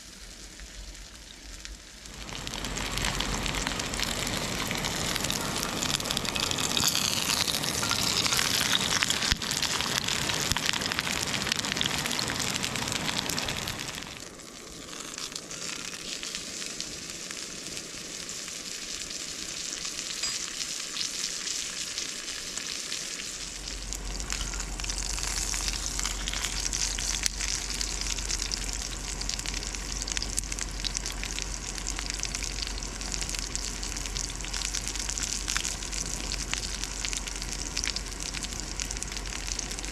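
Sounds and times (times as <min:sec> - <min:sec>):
fire crackling and popping: 0:00.0 - 0:39.9
food sizzling over campfire: 0:00.0 - 0:39.9.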